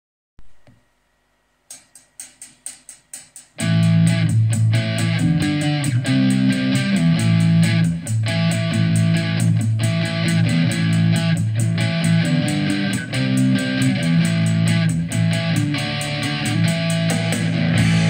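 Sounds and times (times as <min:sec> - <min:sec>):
sharp ticks setting beat: 0:01.7 - 0:18.0
rock band playing: 0:03.3 - 0:18.0.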